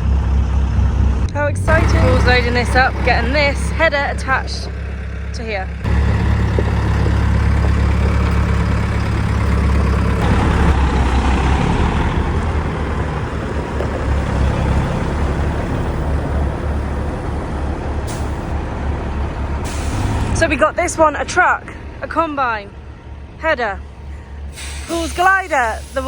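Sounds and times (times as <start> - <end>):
large diesel engine running: 0.0 - 26.0.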